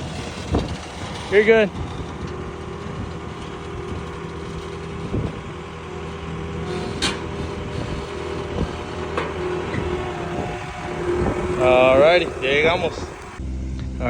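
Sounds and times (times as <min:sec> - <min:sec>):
short knocks and clatters: 0:00.0 - 0:13.4
vehicle engine running: 0:00.0 - 0:13.4
road noise: 0:00.0 - 0:13.5.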